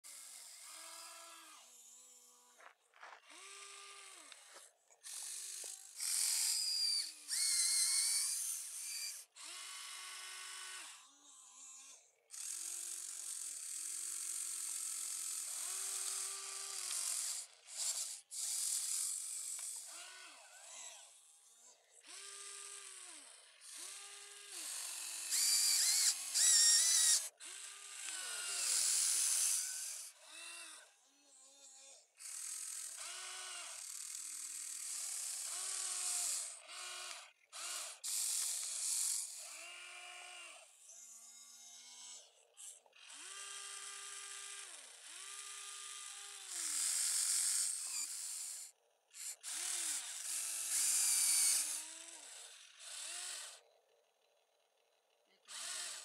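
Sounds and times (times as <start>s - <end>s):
electric gear motors whining: 0.1s - 53.7s, 55.4s - 56.0s.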